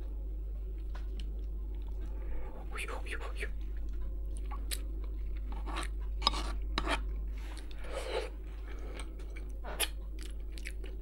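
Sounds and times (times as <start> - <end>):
person chewing food: 0.6 - 2.2, 3.5 - 11.0.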